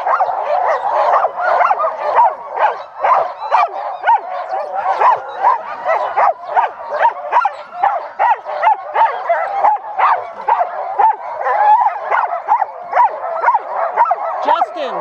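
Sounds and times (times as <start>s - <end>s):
sled dogs barking and yipping: 0.0s - 15.0s.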